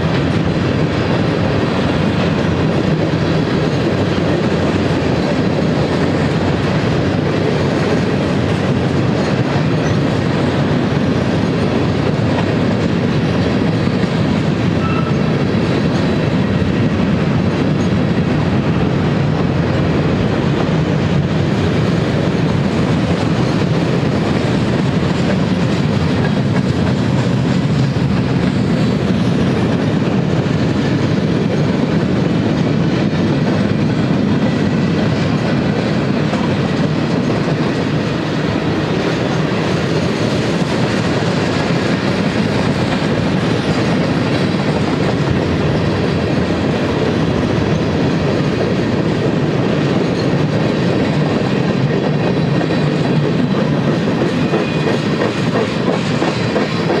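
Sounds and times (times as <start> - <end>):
freight train rolling past: 0.0 - 57.0
steel wheels rattling on rails: 0.0 - 57.0.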